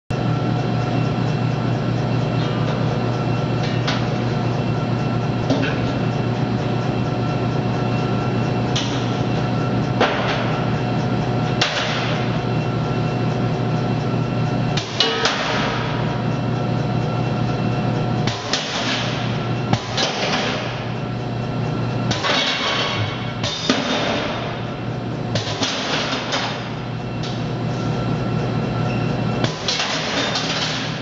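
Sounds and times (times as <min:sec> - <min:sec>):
sorting machine hum: 0:00.1 - 0:31.0.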